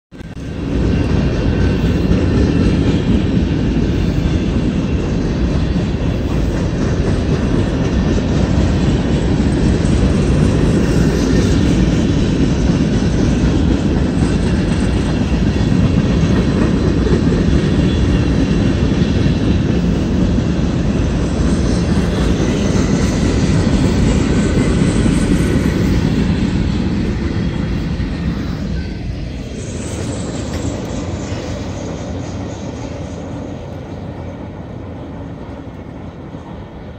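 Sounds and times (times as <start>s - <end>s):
freight train wheels rumbling: 0.1s - 36.9s.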